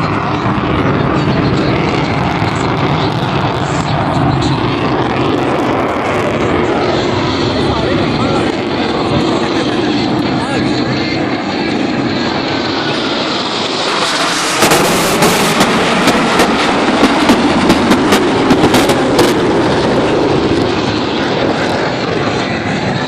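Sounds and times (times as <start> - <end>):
jet engine noise: 0.0 - 23.0.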